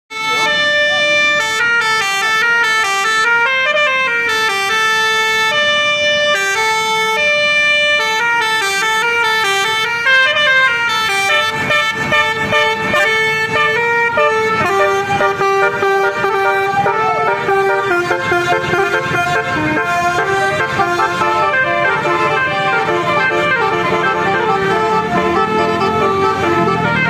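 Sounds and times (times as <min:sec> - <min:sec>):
bus musical horn playing tune: 0:00.1 - 0:27.0.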